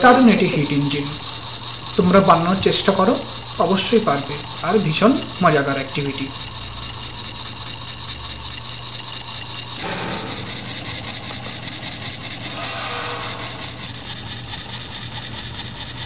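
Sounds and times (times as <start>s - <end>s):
model engine mechanical clatter: 0.0s - 16.0s.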